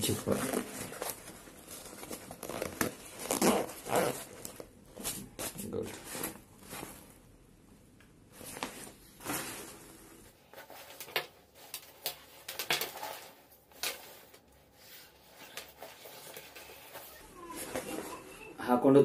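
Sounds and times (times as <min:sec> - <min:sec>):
nylon backpack fabric rustling: 0:00.0 - 0:07.3, 0:08.3 - 0:18.3.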